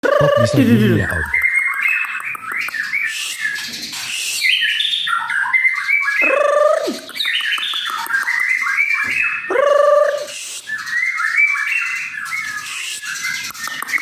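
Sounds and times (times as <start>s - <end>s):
bird singing whistled notes: 1.2s - 14.0s.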